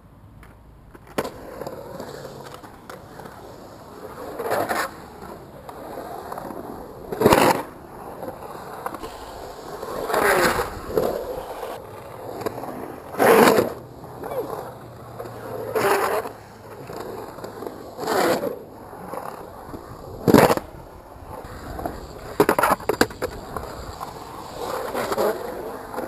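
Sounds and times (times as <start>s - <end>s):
skateboard wheels rolling on concrete: 0.0s - 26.0s
skateboard grinding on coping: 0.9s - 26.0s.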